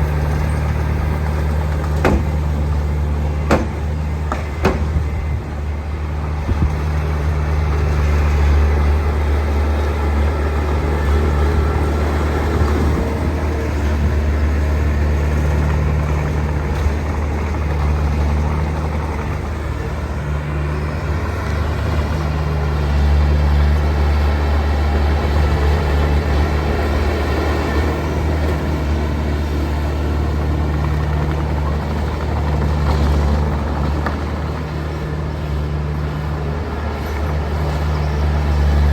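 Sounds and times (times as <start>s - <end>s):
heavy diesel engine rumbling: 0.0s - 38.9s.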